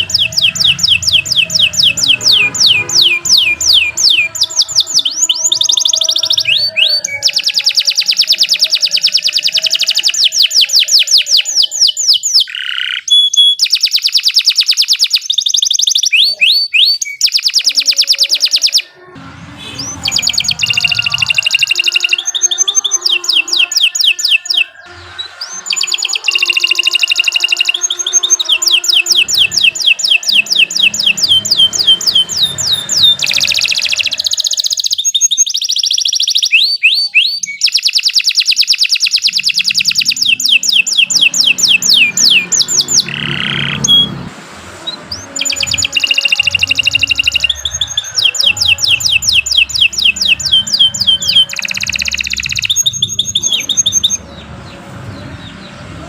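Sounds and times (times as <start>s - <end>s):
canary singing rapid trills: 0.0s - 56.0s.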